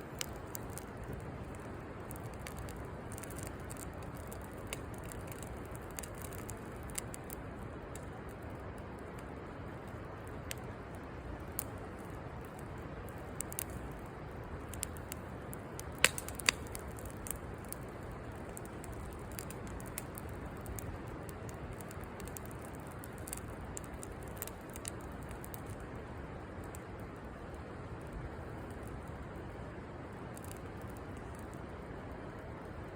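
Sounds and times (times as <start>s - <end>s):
burning wood popping: 0.0s - 26.0s, 30.3s - 31.6s
campfire hissing and crackling: 0.0s - 32.9s.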